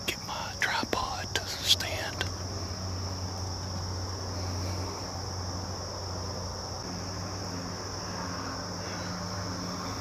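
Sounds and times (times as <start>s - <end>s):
insects droning: 0.0s - 10.0s
low steady hum: 0.0s - 10.0s.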